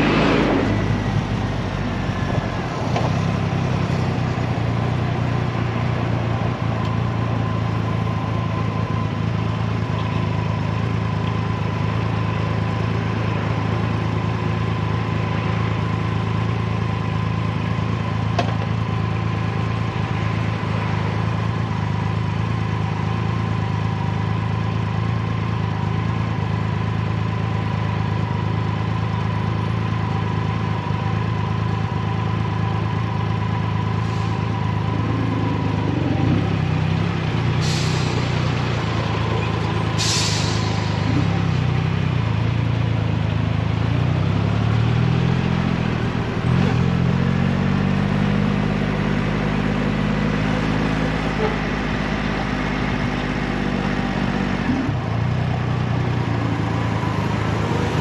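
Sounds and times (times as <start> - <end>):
deeper engine note: 0.0 - 58.0.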